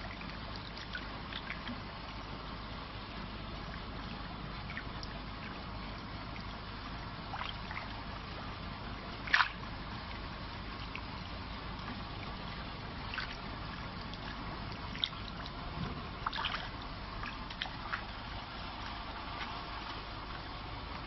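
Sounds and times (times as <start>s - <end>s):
steady watery hiss: 0.0s - 21.0s
water splashing and trickling: 0.0s - 21.0s.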